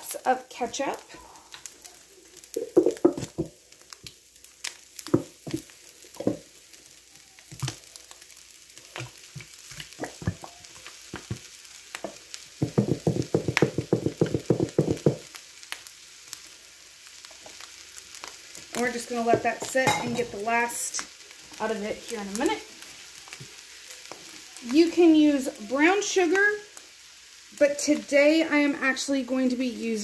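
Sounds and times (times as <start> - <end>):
faint sizzle from pan: 0.0 - 30.0.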